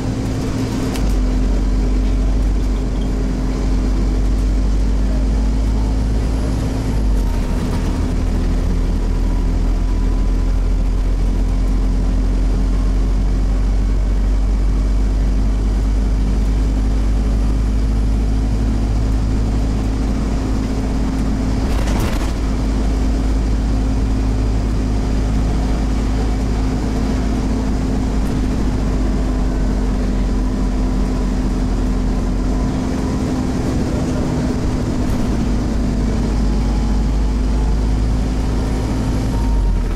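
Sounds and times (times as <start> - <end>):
bus engine rumble: 0.0 - 39.9
road noise: 0.0 - 39.9.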